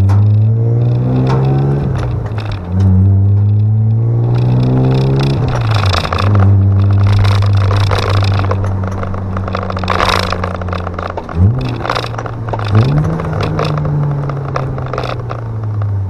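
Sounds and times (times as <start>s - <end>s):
car engine accelerating: 0.0s - 16.0s
road noise: 0.0s - 16.0s.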